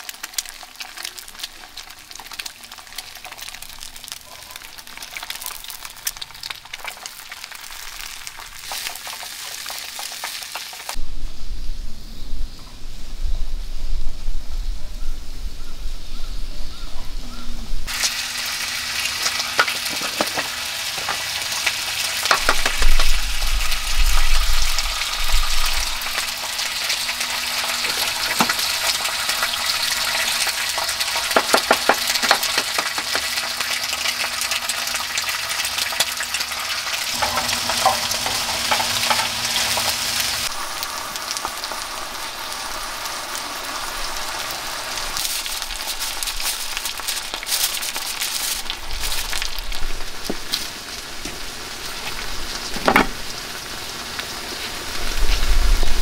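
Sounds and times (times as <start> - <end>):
eggs frying on a griddle: 0.0 - 11.0, 17.9 - 56.0.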